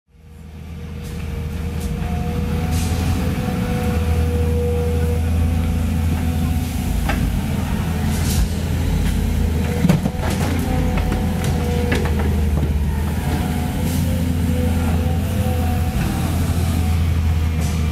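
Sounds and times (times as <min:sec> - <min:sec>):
excavator diesel engine: 0:00.1 - 0:17.9.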